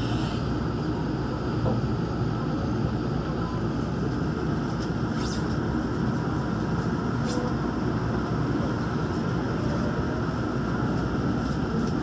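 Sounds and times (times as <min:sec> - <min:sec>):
train running rumble and hum: 0:00.0 - 0:12.0.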